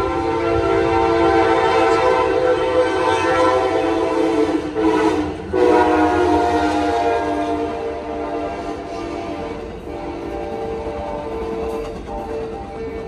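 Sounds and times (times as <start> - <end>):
train air horn chord: 0.0 - 13.0.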